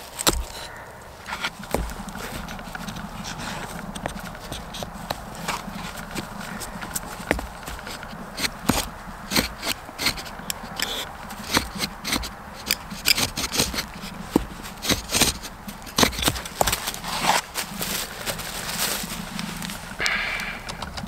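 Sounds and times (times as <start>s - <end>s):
knife scraping and rubbing: 0.0s - 18.0s.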